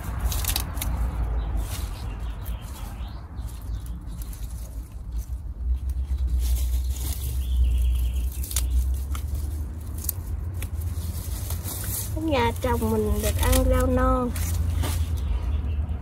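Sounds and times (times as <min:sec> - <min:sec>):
salad greens being picked: 0:00.0 - 0:15.6.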